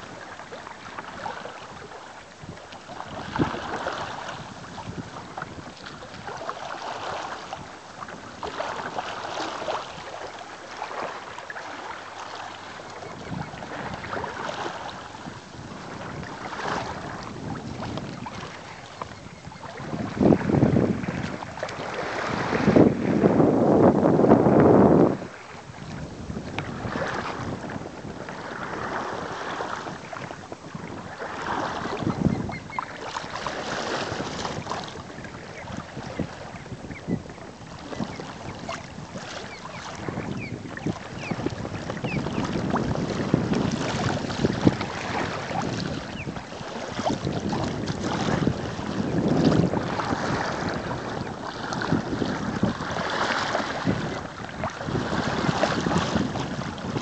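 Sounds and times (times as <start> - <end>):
water splashing along kayak hull: 0.0 - 57.0
wind buffeting microphone: 0.0 - 57.0.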